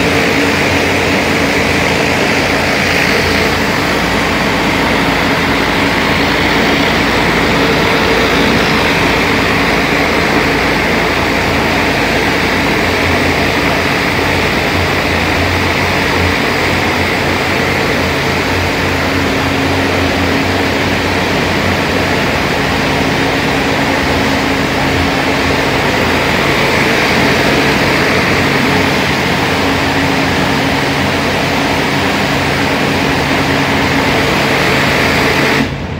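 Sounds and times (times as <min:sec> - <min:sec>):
water jets hissing on concrete: 0:00.0 - 0:35.7
pressure washer engine hum: 0:00.0 - 0:35.9.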